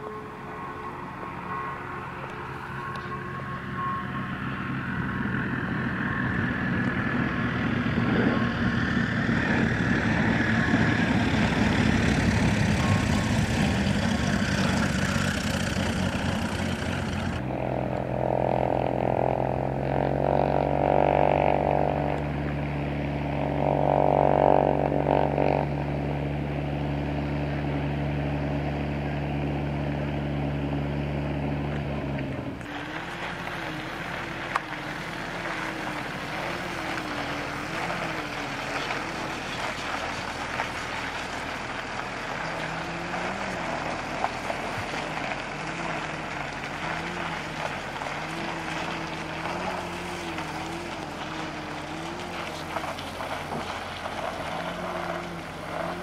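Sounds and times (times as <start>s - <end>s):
propeller plane engine: 0.0s - 56.0s
small engine wavering: 0.0s - 56.0s.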